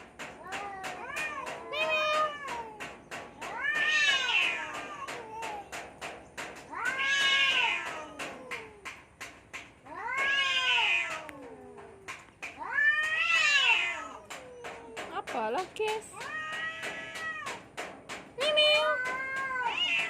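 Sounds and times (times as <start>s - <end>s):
cats yowling: 0.1s - 9.0s, 9.8s - 15.4s, 16.0s - 17.8s, 18.4s - 20.0s.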